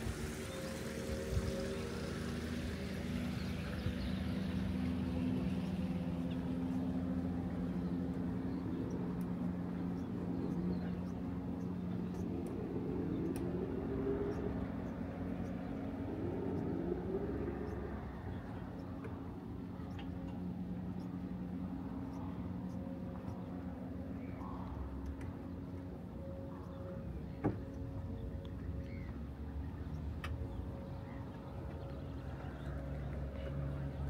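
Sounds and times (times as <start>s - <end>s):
motor engine humming: 0.0s - 34.0s.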